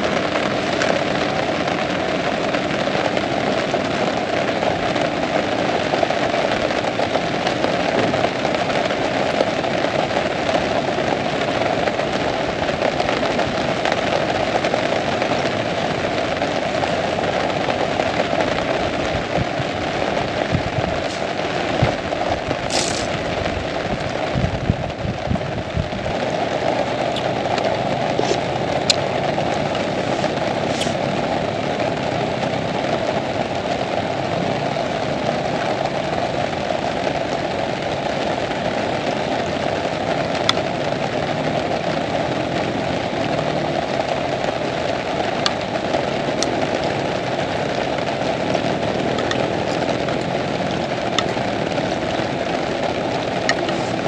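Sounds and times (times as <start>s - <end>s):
heavy rain falling: 0.0s - 54.0s
sharp raindrop hits: 0.0s - 54.0s.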